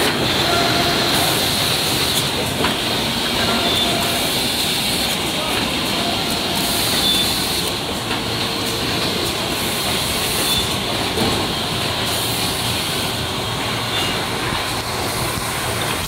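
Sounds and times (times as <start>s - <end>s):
machines running: 0.0s - 16.0s.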